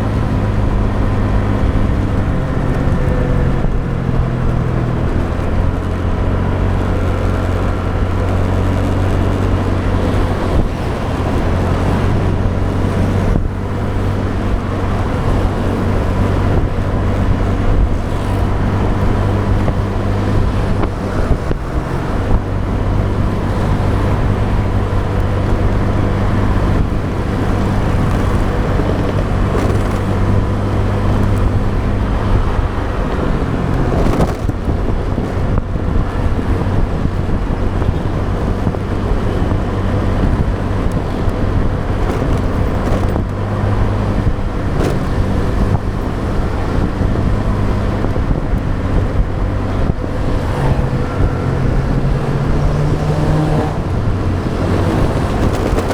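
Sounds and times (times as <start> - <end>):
motorbike engine running: 0.0 - 55.9
passing traffic: 0.0 - 55.9
wind noise on microphone: 0.0 - 55.9.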